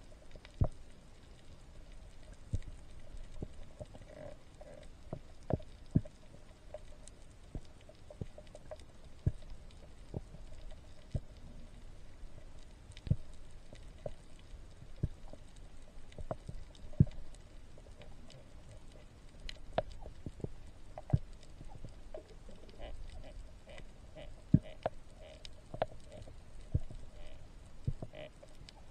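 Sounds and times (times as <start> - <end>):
muffled underwater ambience: 0.0 - 28.9.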